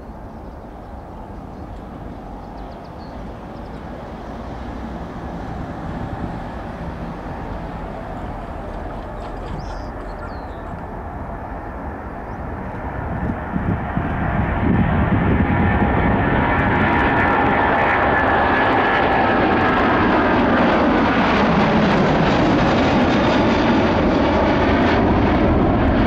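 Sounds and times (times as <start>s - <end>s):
jet engines rumbling at takeoff: 0.0s - 26.0s.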